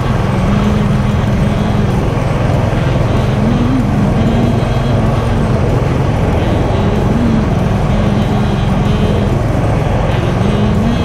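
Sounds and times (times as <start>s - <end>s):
motorcycle engine: 0.0s - 11.0s
wind and road noise: 0.0s - 11.0s.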